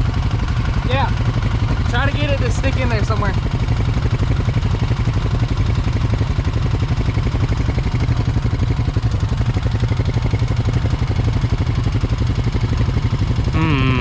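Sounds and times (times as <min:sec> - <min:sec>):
atv engine running steadily: 0:00.0 - 0:14.0.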